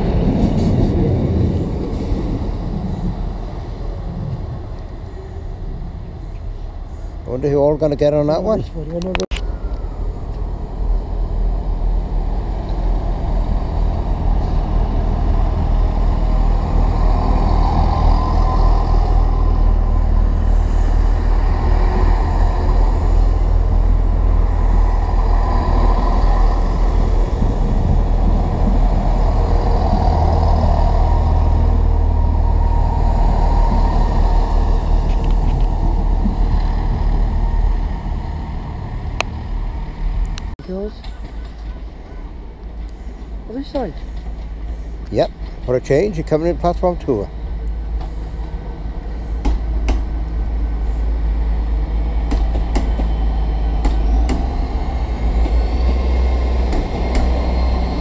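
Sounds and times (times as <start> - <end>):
diesel train engine rumble: 0.0 - 58.0.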